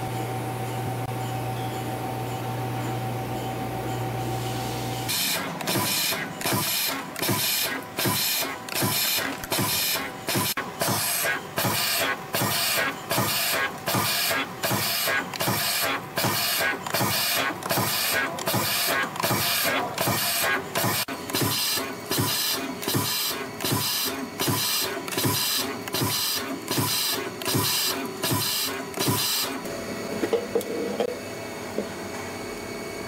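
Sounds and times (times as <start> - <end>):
wire forming machine running: 3.4 - 30.2.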